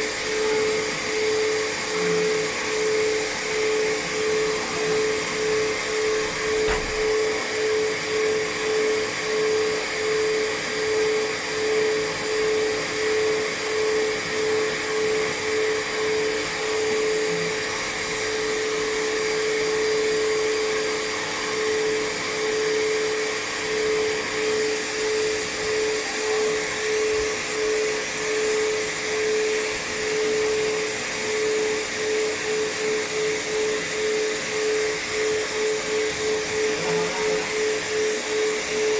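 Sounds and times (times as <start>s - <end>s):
blow dryer rushing and whining: 0.0s - 38.9s.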